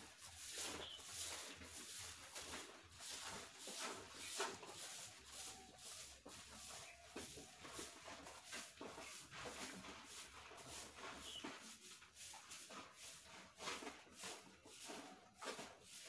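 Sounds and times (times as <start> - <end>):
hand broom sweeping floor: 0.0 - 16.0.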